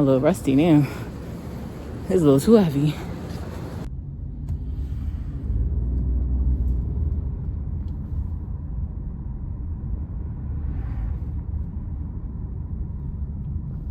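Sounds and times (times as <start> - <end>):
low steady rumble: 0.0 - 13.9.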